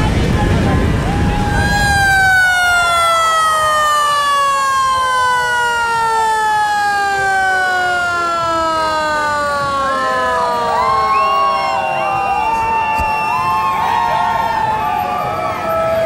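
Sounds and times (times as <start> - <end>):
mechanical siren winding down: 1.2 - 16.0.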